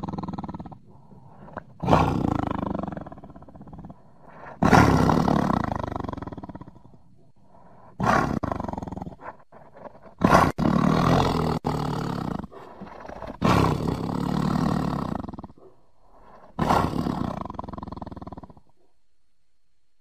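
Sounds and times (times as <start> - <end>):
tiger roaring: 0.0 - 18.9.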